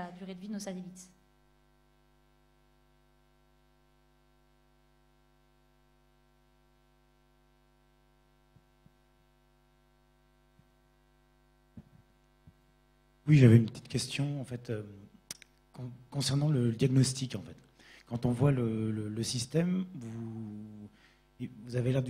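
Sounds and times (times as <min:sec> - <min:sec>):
faint mains hum: 0:00.0 - 0:22.0.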